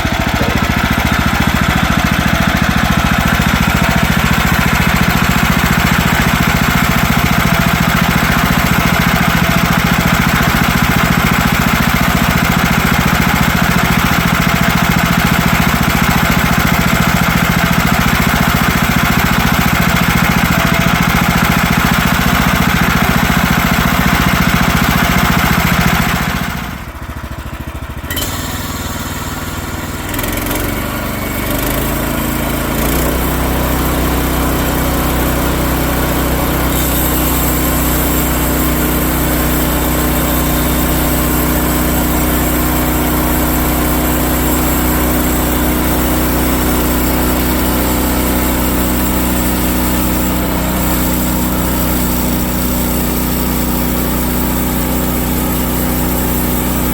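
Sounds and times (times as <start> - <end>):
engine idling: 0.0 - 56.9
engine running hard: 0.0 - 56.9.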